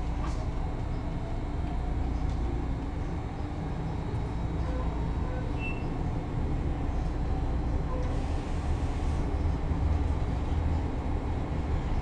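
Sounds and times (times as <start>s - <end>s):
rail car wheels rumbling: 0.0s - 12.0s.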